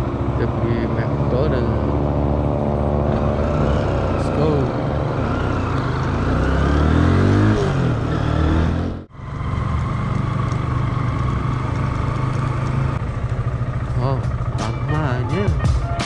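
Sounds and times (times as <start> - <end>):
motor scooter engine: 0.0 - 16.0.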